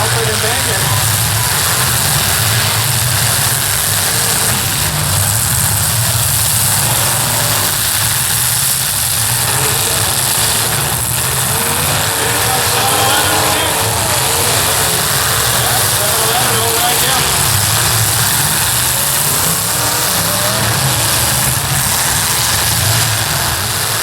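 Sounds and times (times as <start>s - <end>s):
car engines running: 0.0s - 24.0s
constant hiss: 0.0s - 24.0s.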